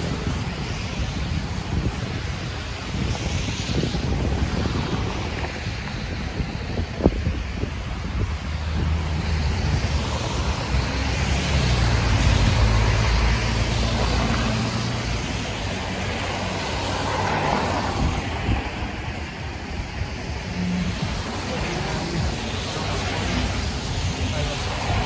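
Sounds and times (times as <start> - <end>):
road hiss: 0.0 - 25.0
vehicle engine rumble: 0.0 - 25.0.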